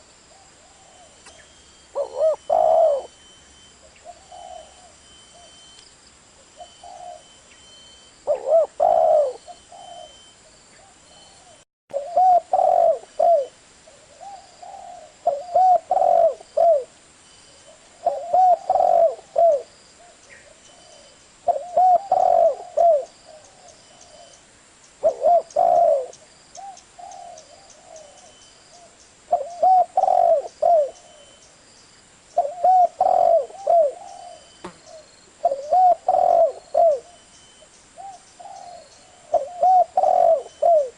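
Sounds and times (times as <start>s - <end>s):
dove cooing: 0.3s - 3.2s, 3.8s - 5.6s, 6.6s - 7.4s, 8.2s - 16.9s, 17.7s - 24.4s, 25.0s - 31.4s, 32.4s - 37.3s, 38.0s - 40.9s.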